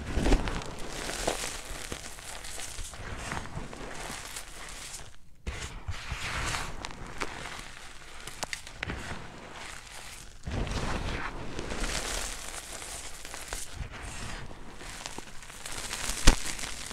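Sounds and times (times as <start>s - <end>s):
feet crushing chalk: 0.0s - 16.9s.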